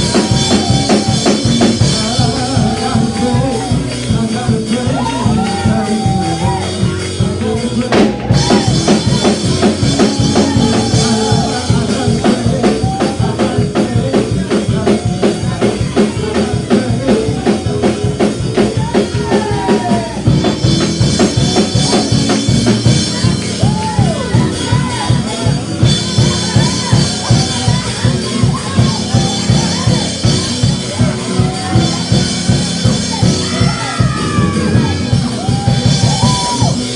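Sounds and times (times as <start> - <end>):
voices singing and calling: 0.0 - 20.3, 21.2 - 36.9
church praise music: 0.0 - 36.9
drum kit driving beat: 0.0 - 36.9
held instrument chords: 0.0 - 36.9.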